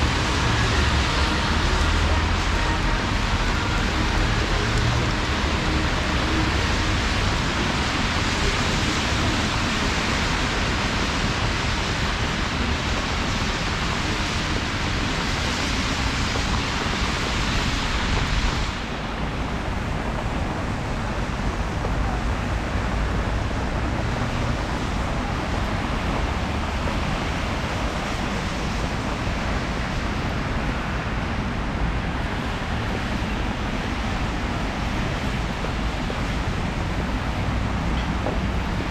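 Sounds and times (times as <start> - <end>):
rain hiss: 0.0 - 38.9
traffic rushing: 0.0 - 38.9.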